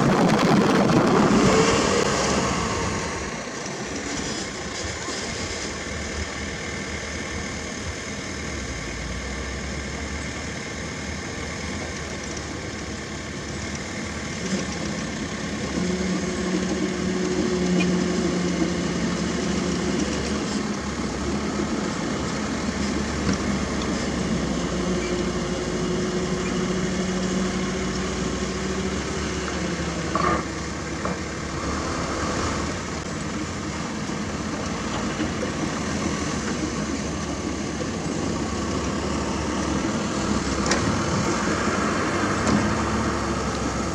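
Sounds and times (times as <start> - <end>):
diesel machinery running: 0.0 - 43.9.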